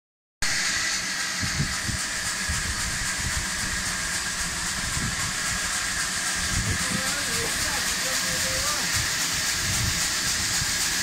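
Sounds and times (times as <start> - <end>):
saw high whine: 0.4 - 11.0
sawmill engine din: 0.4 - 11.0.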